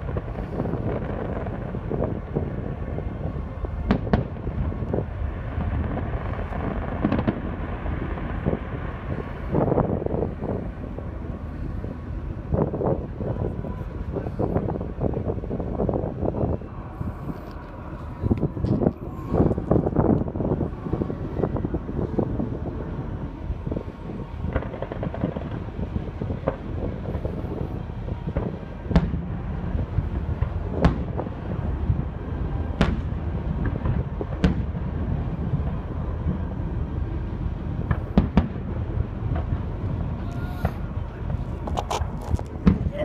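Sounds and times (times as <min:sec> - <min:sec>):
distant fireworks bangs: 0:00.0 - 0:16.8, 0:17.6 - 0:43.0
low rumble: 0:00.0 - 0:43.0.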